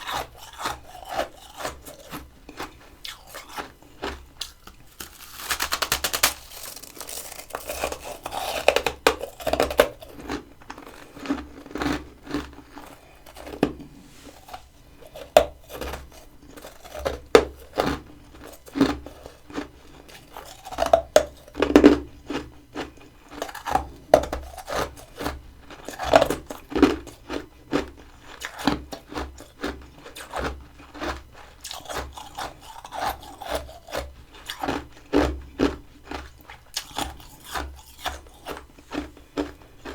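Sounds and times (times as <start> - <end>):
frost crunching as chewed: 0.0 - 39.9.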